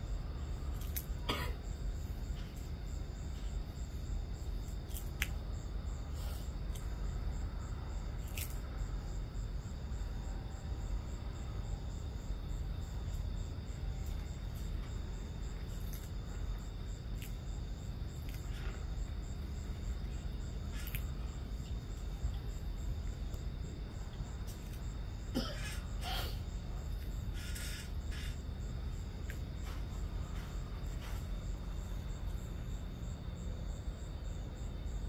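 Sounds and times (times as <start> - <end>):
crickets chirping: 0.0 - 35.0.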